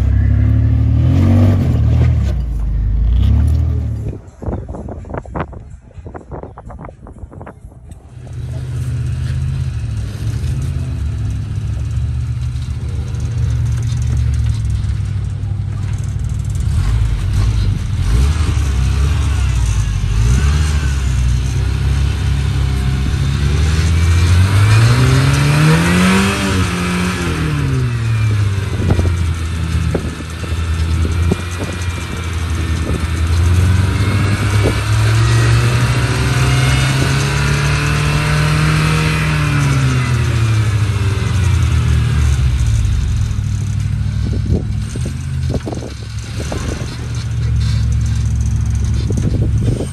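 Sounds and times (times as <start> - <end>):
buggy engine revving under load: 0.0 - 4.2, 8.1 - 49.9.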